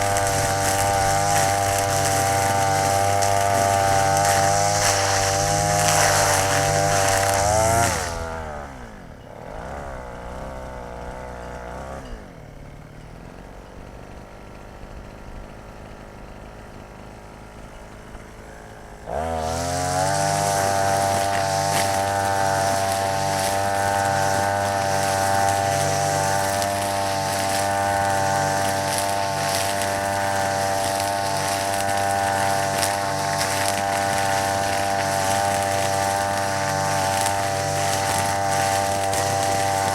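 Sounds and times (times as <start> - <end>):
brush cutter engine: 0.0 - 39.9.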